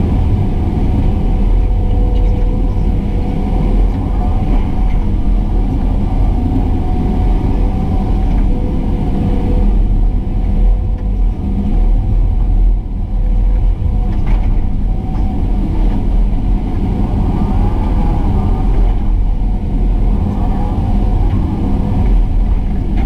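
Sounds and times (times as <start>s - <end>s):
diesel engine rumbling: 0.0s - 23.0s
engine whine: 0.0s - 23.0s.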